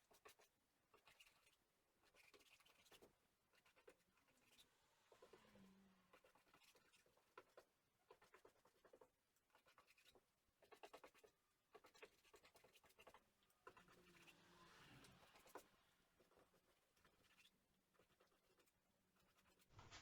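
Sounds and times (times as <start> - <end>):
faint brush strokes scratching: 0.0 - 20.0.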